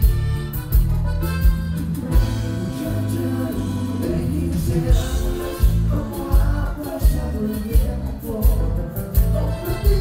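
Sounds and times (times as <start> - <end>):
live band through pa system: 0.0 - 10.0
man singing: 1.9 - 10.0.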